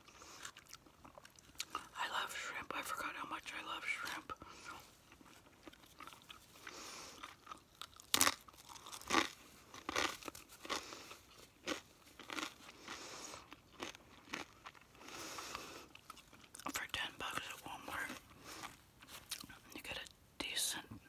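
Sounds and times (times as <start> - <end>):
person chewing crunchy food: 0.0 - 2.0, 4.0 - 19.6.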